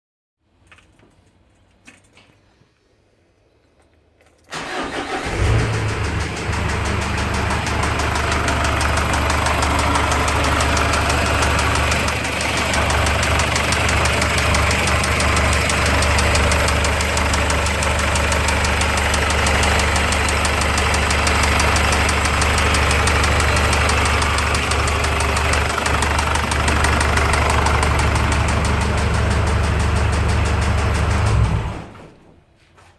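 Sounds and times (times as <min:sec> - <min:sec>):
engine idling with rapid knock: 0:04.7 - 0:31.9.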